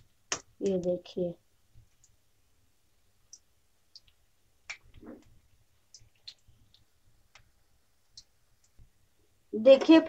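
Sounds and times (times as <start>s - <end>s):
pops and crackles of deep-frying: 0.0s - 10.0s.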